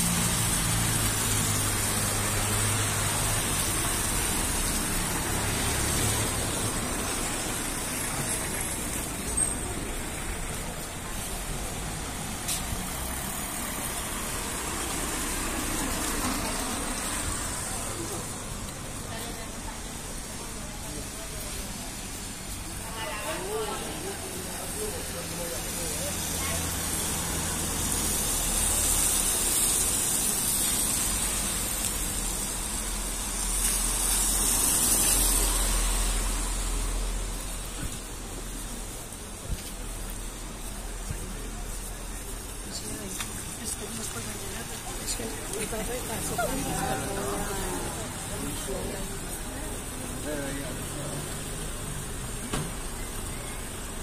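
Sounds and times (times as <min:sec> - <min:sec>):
car traffic on wet asphalt: 0:00.0 - 0:54.0.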